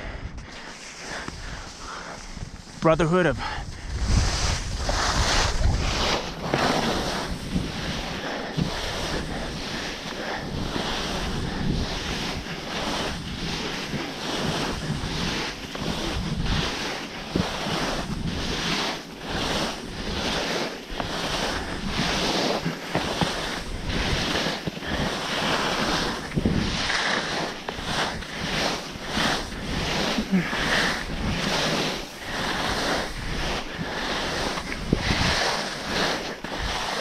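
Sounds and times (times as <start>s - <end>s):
skis scraping through wet snow: 0.0s - 37.0s
wind rushing over microphone: 0.0s - 37.0s.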